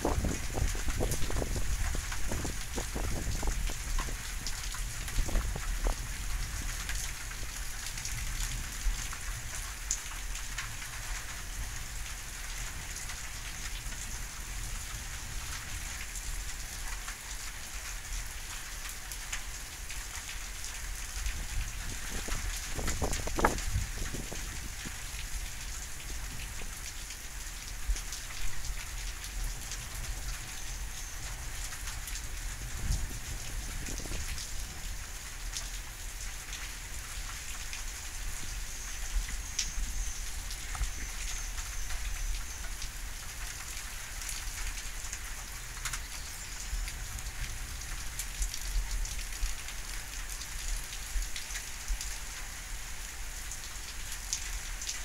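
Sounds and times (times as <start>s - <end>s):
raindrop hits close by: 0.0s - 30.5s, 31.3s - 46.2s
steady rain hiss: 0.0s - 55.0s.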